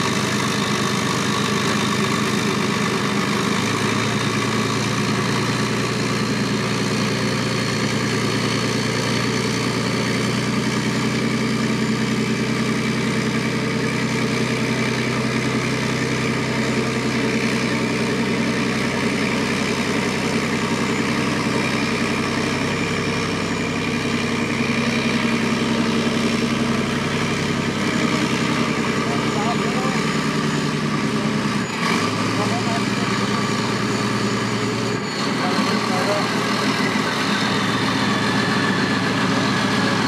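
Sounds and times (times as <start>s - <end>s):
tracked vehicle diesel engine: 0.0s - 40.0s.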